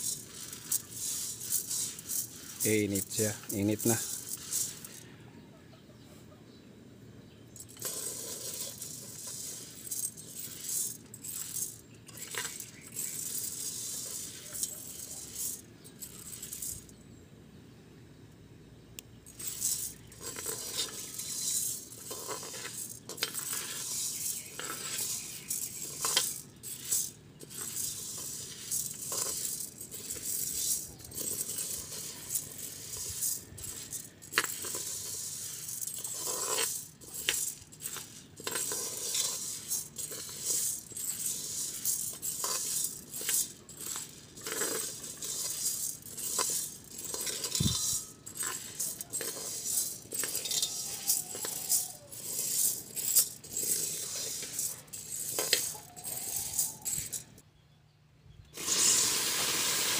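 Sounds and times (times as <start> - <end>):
beans scraping in metal pot: 0.0 - 5.2, 7.5 - 17.0, 19.1 - 57.4, 58.5 - 59.9.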